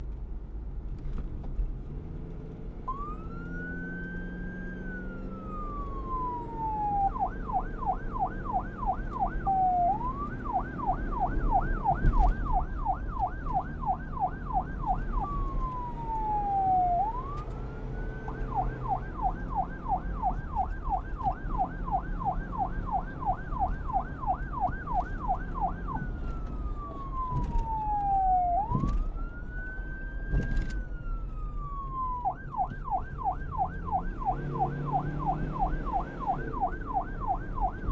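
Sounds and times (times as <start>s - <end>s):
police siren wail and yelp: 2.8s - 37.9s.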